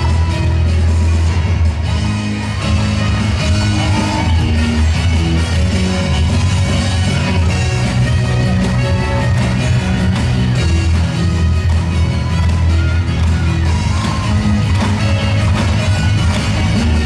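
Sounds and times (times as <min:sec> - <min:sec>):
pop-rock dance music over loudspeakers: 0:00.0 - 0:17.0.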